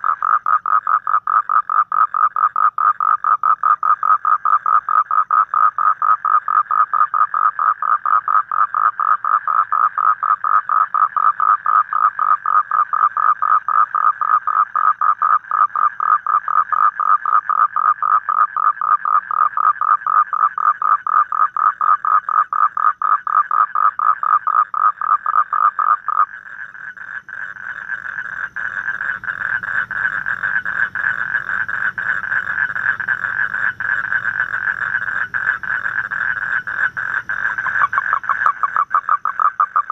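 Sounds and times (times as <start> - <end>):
toad croaking: 0.0 - 39.9.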